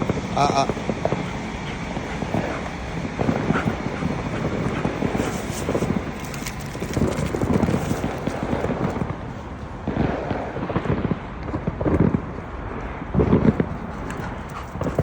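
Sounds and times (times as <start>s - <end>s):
steady rumble: 0.0s - 10.8s, 12.1s - 15.0s
fireworks crackling and popping: 0.0s - 14.4s.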